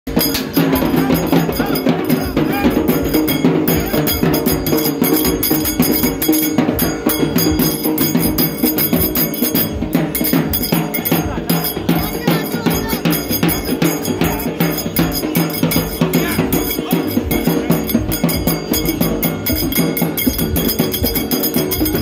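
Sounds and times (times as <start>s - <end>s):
fast dance music with percussion: 0.1s - 22.0s.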